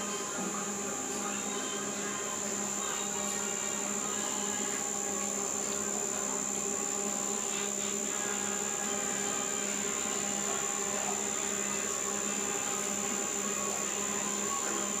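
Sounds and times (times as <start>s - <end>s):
high-pitched whine: 0.0s - 15.0s
treadmill motor hum: 0.0s - 15.0s.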